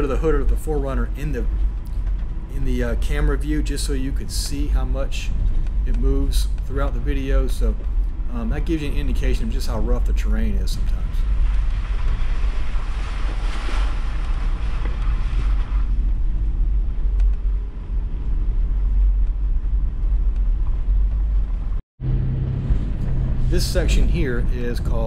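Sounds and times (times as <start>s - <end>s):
vehicle engine and tyres droning: 0.0s - 25.0s.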